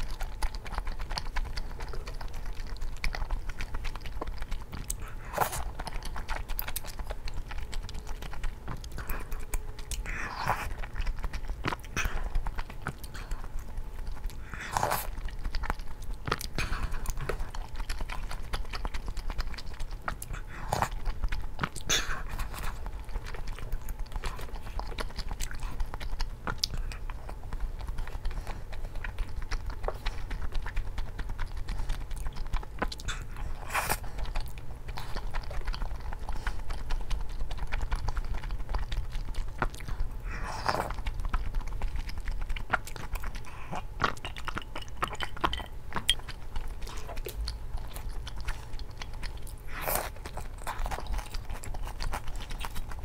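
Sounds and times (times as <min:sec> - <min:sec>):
chewing with wet mouth clicks: 0:00.0 - 0:53.0.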